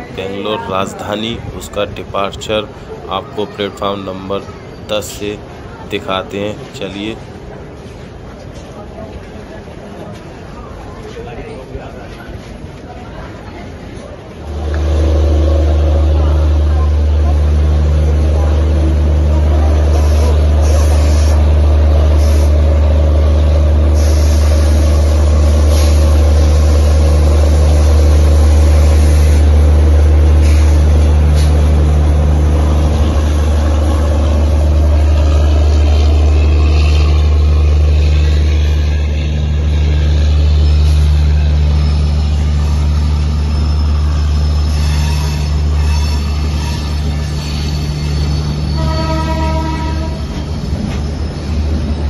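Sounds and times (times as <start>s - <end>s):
train passing with low hum: 0.0s - 52.0s
wheels squealing on rails: 6.6s - 52.0s.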